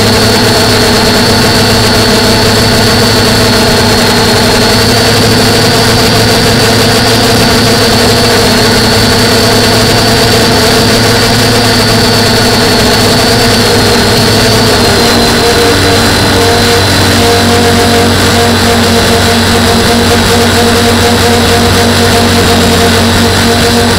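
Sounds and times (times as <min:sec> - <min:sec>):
quadcopter motors buzzing: 0:00.0 - 0:23.9.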